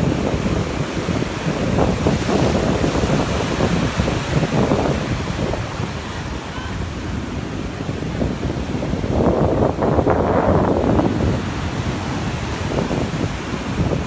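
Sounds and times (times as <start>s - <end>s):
ocean surf washing on sand: 0.0s - 14.0s
wind buffeting microphone: 0.0s - 14.0s.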